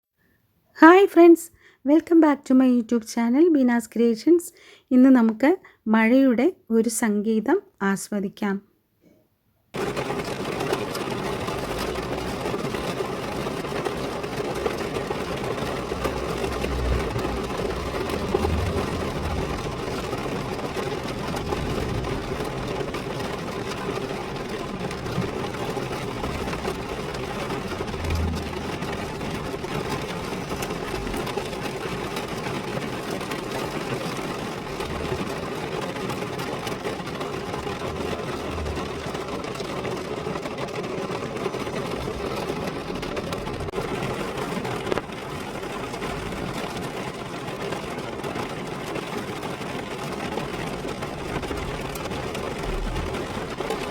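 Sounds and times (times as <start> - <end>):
rain pattering on a car: 9.7 - 53.9.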